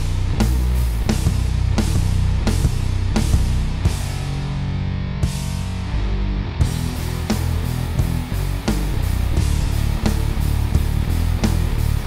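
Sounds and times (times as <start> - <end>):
rock music with steady beat: 0.0 - 12.0.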